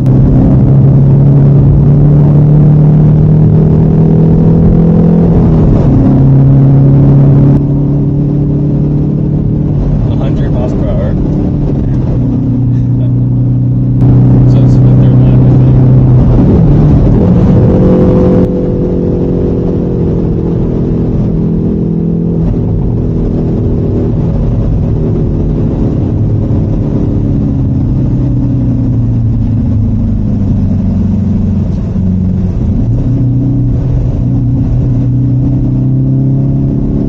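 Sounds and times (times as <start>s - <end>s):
car engine under load: 0.0s - 37.0s.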